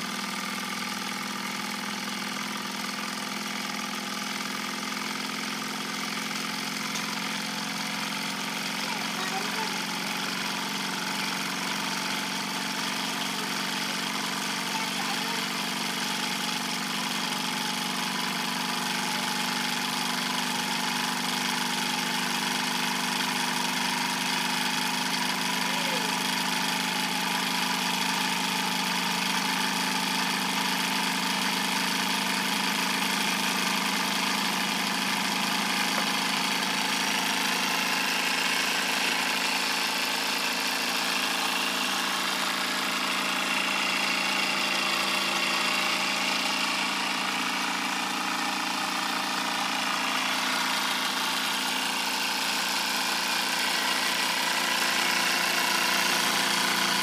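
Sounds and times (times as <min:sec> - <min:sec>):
toy steam engine running: 0:00.0 - 0:57.0.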